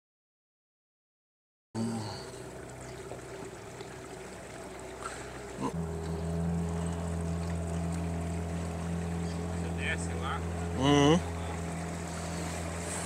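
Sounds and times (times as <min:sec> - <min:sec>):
small boat motor running: 0:01.8 - 0:13.0.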